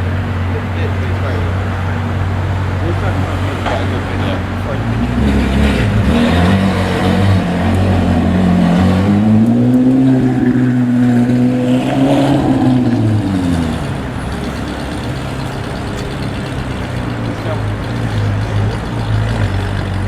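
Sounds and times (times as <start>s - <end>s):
sports car engine running: 0.0s - 20.0s.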